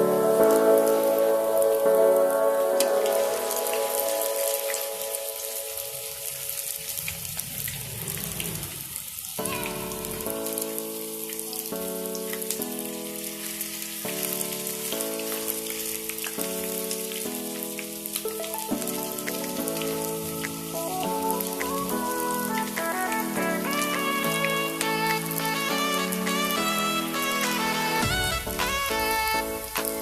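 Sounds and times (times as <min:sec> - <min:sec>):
music of sustained notes: 0:00.0 - 0:07.1, 0:09.6 - 0:30.0.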